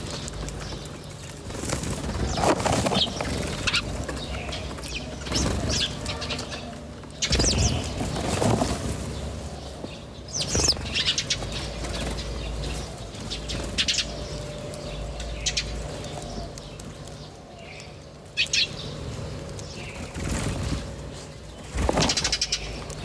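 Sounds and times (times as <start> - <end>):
low background hum: 0.0 - 23.0
small birds chirping: 0.0 - 23.0.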